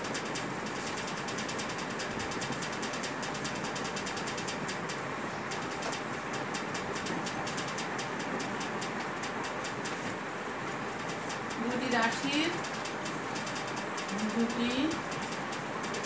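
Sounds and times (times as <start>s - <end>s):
rapid mechanical ticking: 0.0s - 16.0s
steady rushing noise: 0.0s - 16.0s.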